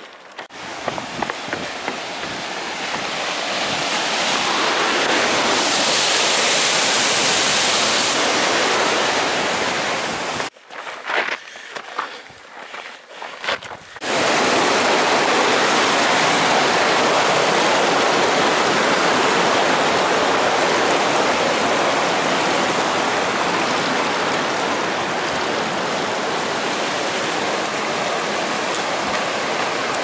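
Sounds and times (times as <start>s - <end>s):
stream rushing over rocks: 0.0s - 10.5s, 14.0s - 30.0s.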